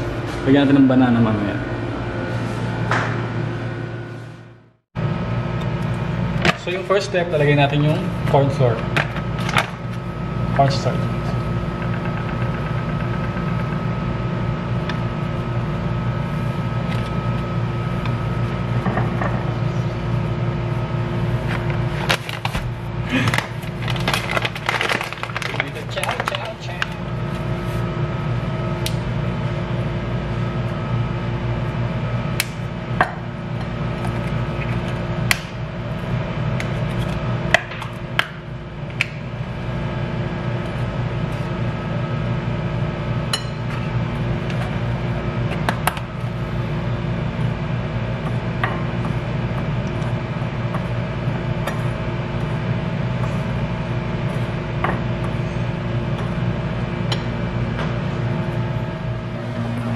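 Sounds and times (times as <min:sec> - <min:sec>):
appliance humming: 0:00.0 - 0:59.9.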